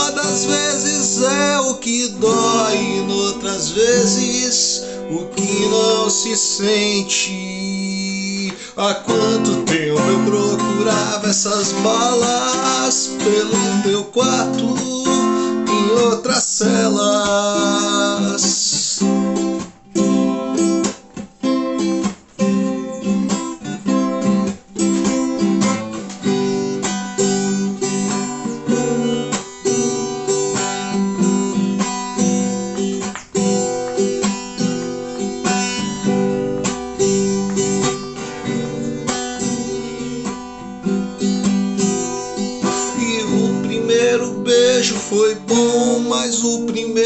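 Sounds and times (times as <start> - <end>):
acoustic guitar strumming: 0.0 - 47.0.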